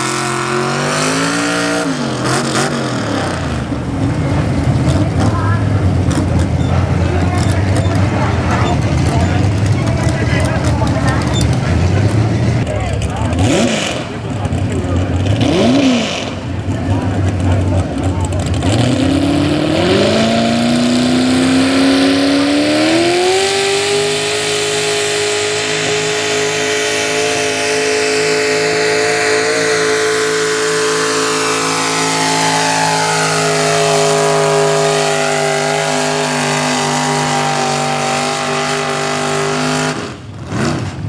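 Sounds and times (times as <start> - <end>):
truck engine at full throttle: 0.0 - 41.0.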